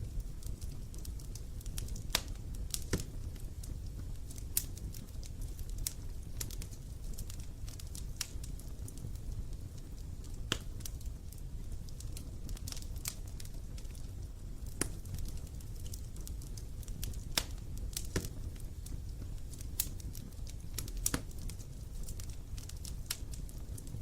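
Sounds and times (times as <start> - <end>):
campfire crackling and popping: 0.0 - 24.0
low rumble of flames: 0.0 - 24.0.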